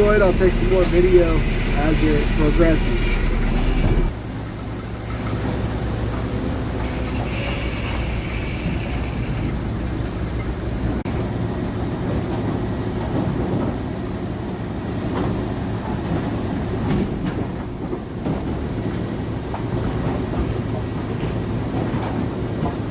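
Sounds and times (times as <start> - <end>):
sawmill machinery humming: 0.0 - 22.9.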